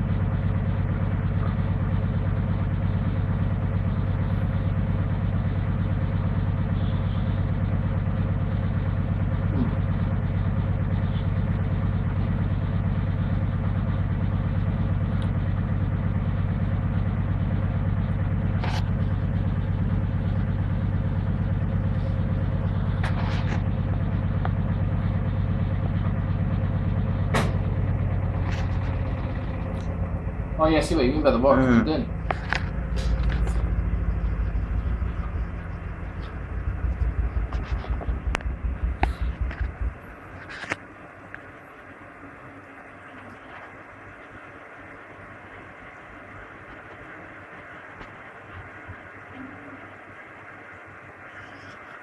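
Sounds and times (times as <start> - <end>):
washing machine humming: 0.0 - 51.6.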